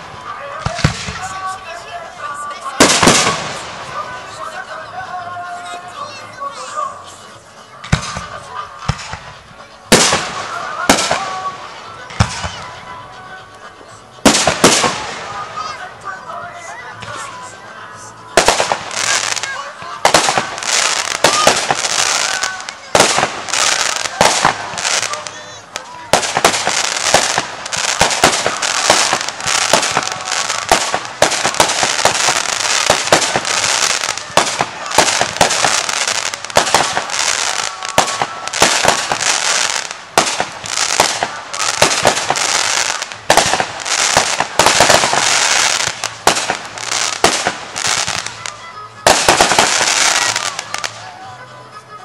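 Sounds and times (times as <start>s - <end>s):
fireworks banging: 0.0s - 5.8s, 7.8s - 17.5s, 18.3s - 51.1s
fireworks crackling: 0.0s - 51.4s.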